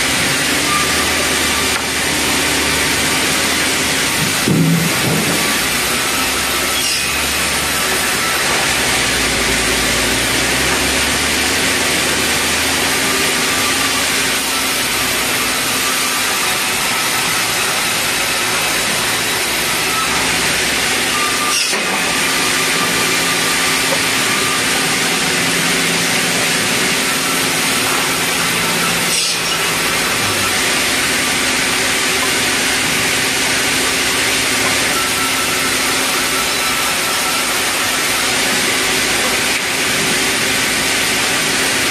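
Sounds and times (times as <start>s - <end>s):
band saw cutting timber: 0.0s - 41.9s.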